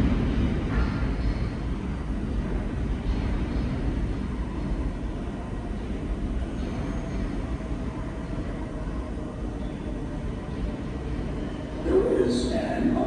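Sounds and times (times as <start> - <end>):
subway train rumbling in tunnel: 0.0 - 13.0.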